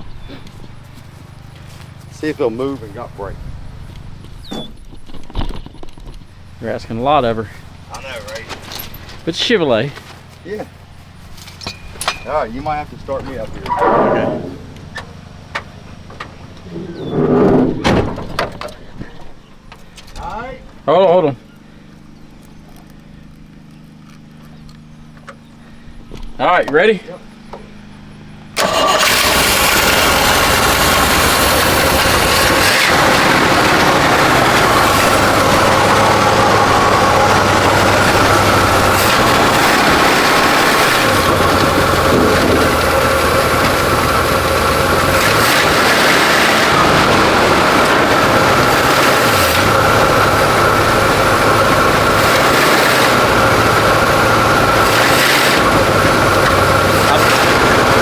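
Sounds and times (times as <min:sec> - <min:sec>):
truck engine starting and revving: 0:00.0 - 0:20.5, 0:26.8 - 0:58.0.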